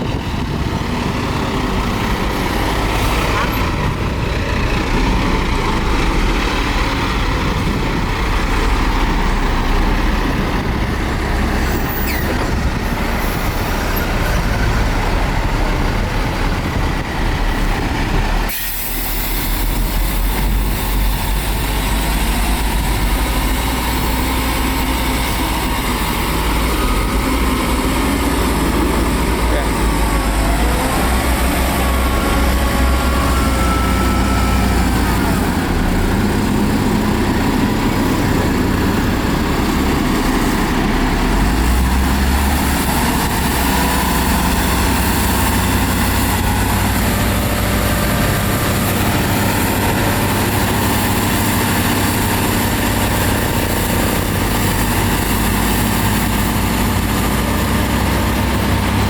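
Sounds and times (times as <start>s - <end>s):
heavy diesel machinery rumbling: 0.0s - 59.0s.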